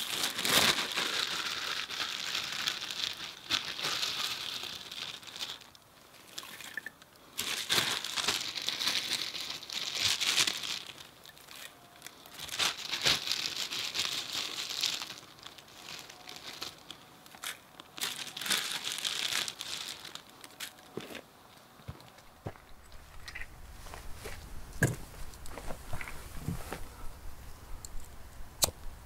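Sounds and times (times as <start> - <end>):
dry material crinkling: 0.0 - 27.0.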